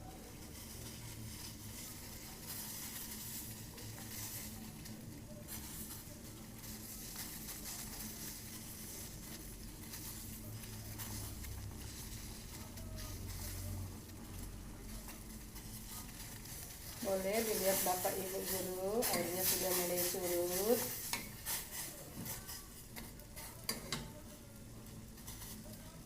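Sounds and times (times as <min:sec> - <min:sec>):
pot of water boiling: 0:00.0 - 0:26.0.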